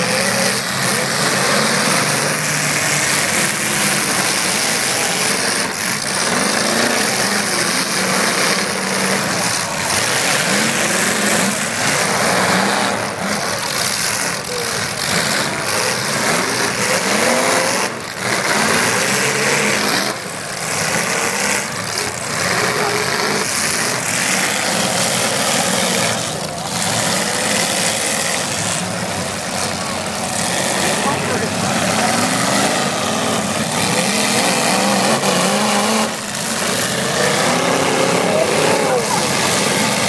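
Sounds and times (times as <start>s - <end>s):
car engines revving together: 0.0s - 40.0s.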